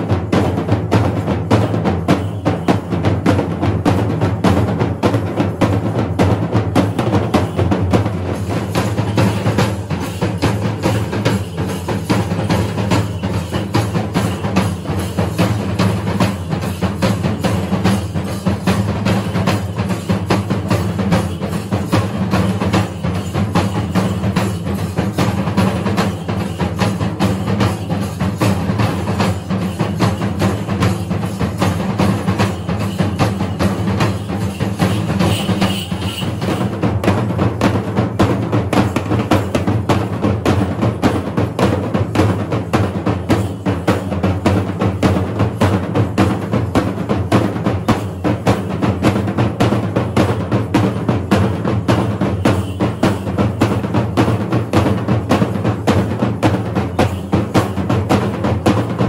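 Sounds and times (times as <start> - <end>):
drum ensemble playing fast strokes: 0.0 - 59.0.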